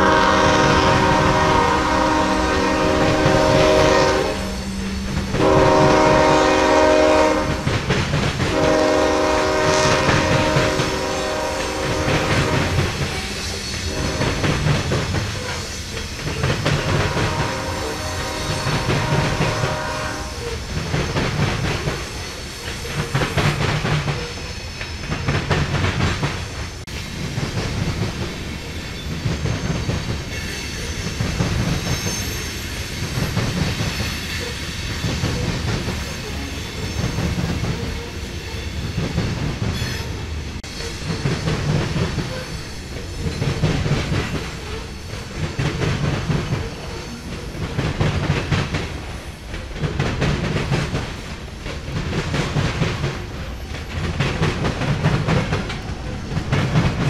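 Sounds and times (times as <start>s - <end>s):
freight train rumble: 0.0s - 57.0s
train wheels clacking over joints: 0.0s - 57.0s.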